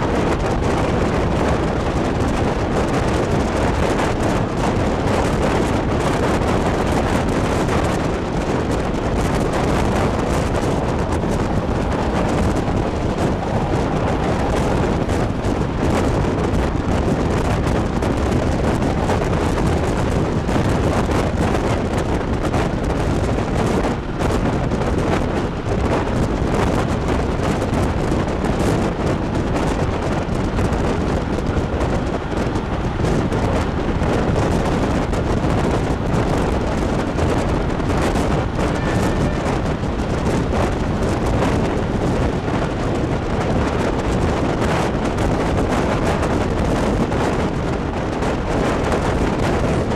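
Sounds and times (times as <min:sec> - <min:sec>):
train running on rails: 0:00.0 - 0:49.9
wind rushing over microphone: 0:00.0 - 0:49.9.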